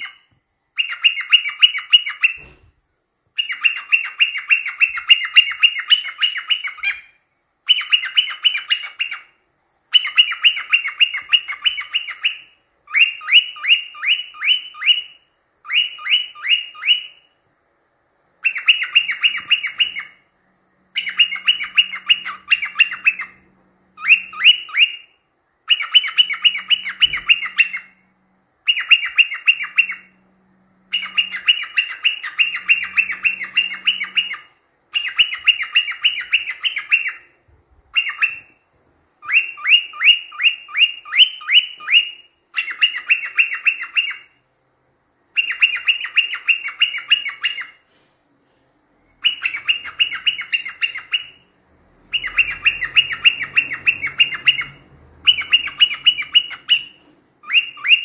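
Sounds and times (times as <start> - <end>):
cockatiel chirping: 0.0 - 2.7, 3.3 - 17.4, 18.4 - 20.3, 20.9 - 30.2, 30.8 - 38.6, 39.2 - 44.4, 45.3 - 47.9, 49.1 - 58.0.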